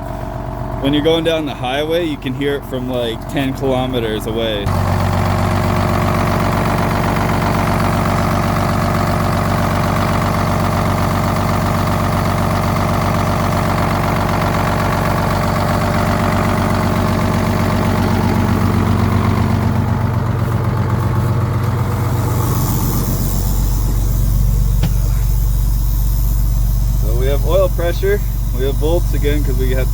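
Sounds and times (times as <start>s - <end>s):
truck diesel engine idling: 0.0s - 29.9s.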